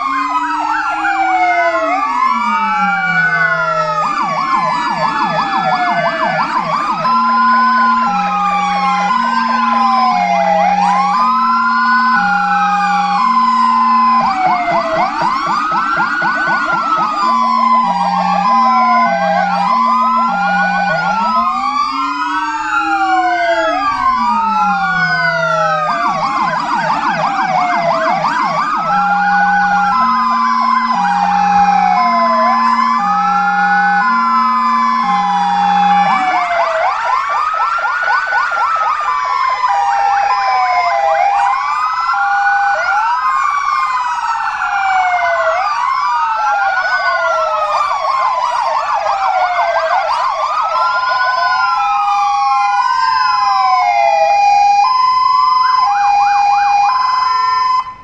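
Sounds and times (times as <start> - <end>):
fire engine sirens wailing: 0.0 - 58.0
low two-tone siren: 0.0 - 58.0.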